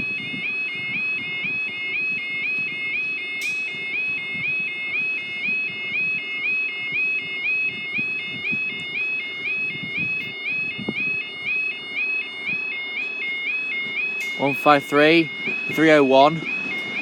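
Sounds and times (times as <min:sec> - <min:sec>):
two-tone warbling warning alarm: 0:00.0 - 0:17.0.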